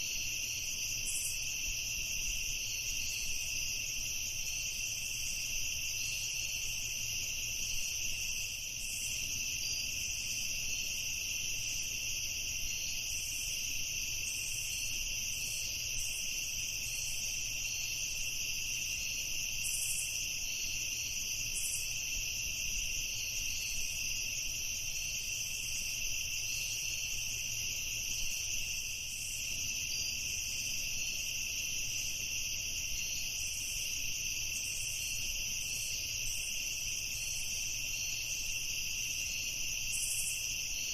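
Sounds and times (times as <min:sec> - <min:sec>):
night insects trilling: 0:00.0 - 0:40.9.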